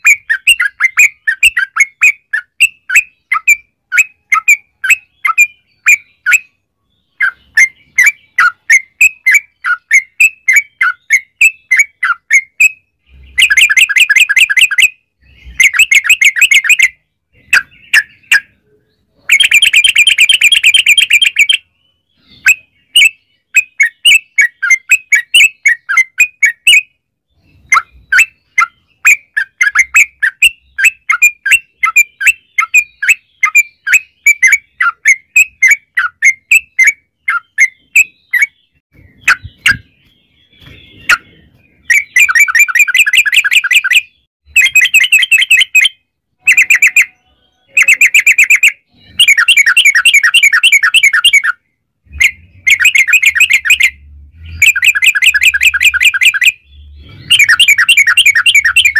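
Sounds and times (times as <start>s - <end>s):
fast bird trills: 0.0s - 6.5s, 7.2s - 18.6s, 19.2s - 58.9s
bulbul singing rapid chirps: 0.0s - 58.9s.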